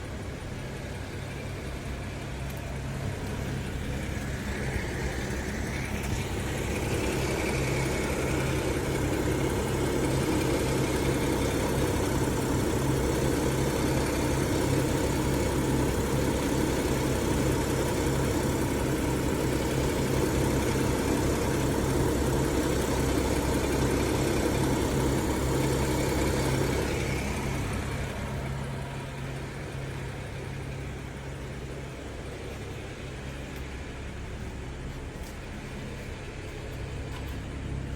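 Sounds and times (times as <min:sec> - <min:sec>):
low engine hum: 0:00.0 - 0:37.9
mid-pitched droning noise: 0:00.0 - 0:37.9.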